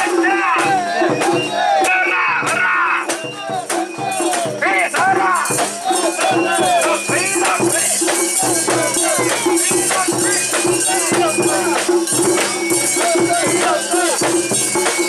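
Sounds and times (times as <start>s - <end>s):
crowd shouting and chanting: 0.0s - 15.0s.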